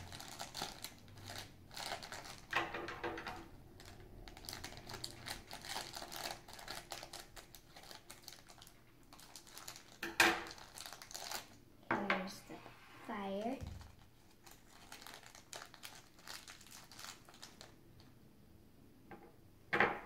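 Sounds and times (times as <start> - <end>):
plastic bag crinkling: 0.0 - 11.6, 13.6 - 18.1.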